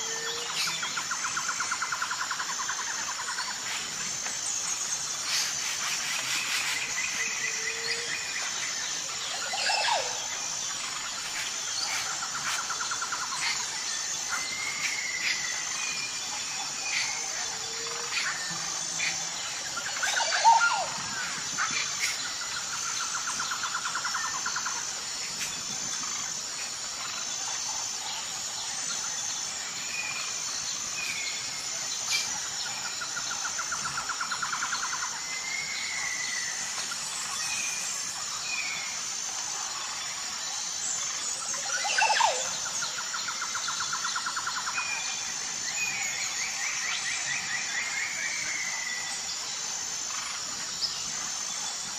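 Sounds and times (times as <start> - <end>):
high-pitched insect drone: 0.0 - 51.9.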